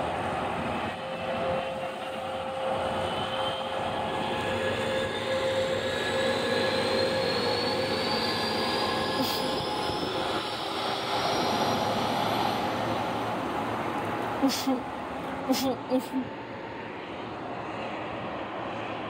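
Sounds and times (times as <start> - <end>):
train hum: 0.0 - 19.0.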